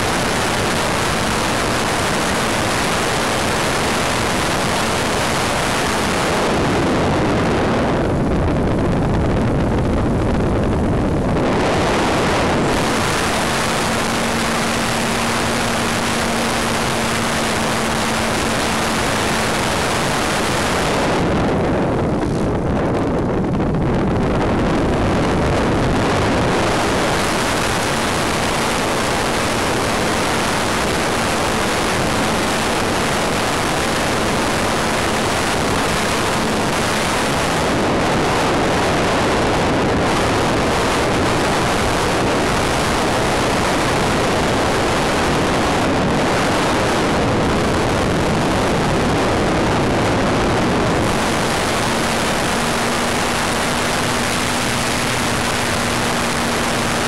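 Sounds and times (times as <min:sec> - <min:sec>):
faint motor drone: 0:00.0 - 0:57.0
rush of airflow: 0:00.0 - 0:57.0.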